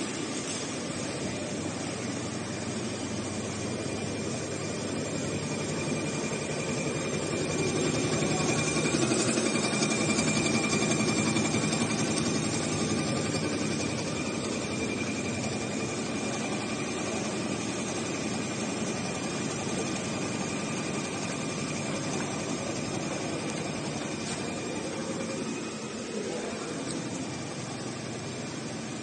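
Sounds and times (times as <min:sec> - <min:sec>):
sewing machine whirring: 0:00.0 - 0:29.0
thin high whine: 0:00.0 - 0:29.0.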